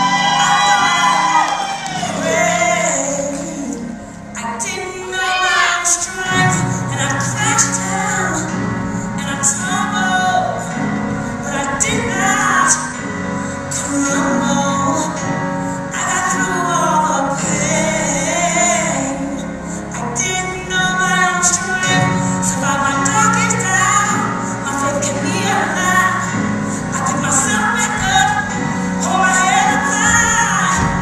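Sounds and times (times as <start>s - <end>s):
song with female vocal: 0.0s - 31.0s.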